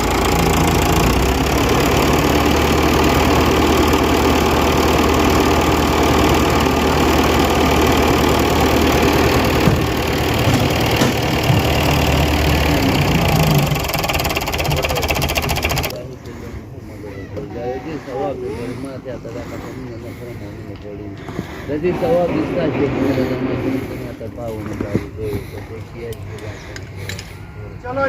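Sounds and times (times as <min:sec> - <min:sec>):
tractor diesel engine idling: 0:00.0 - 0:27.2.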